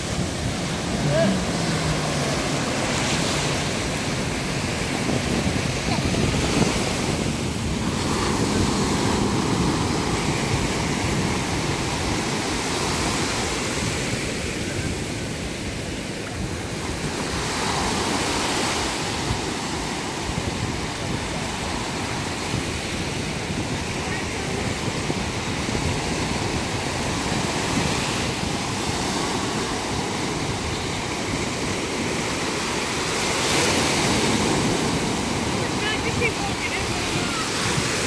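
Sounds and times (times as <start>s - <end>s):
sea waves breaking on a beach: 0.0s - 38.0s
wind buffeting microphone: 0.0s - 38.0s.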